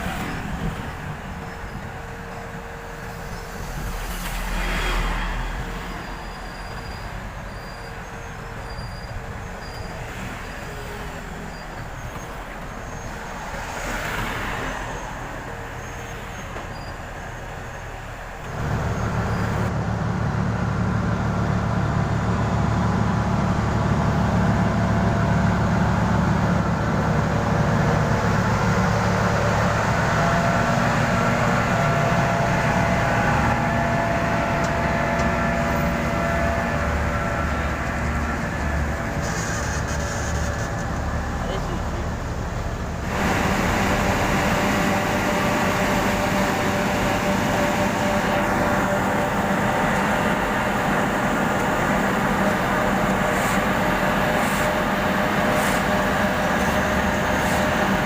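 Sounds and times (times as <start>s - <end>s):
heavy diesel machinery rumbling: 0.0s - 58.0s.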